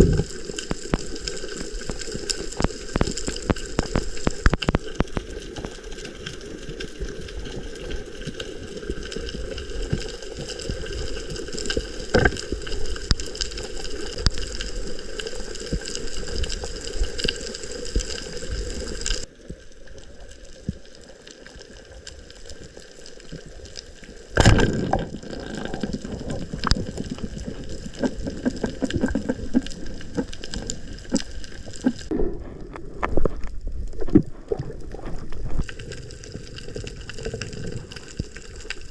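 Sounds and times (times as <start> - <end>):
water sloshing and bubbling: 0.0 - 38.9.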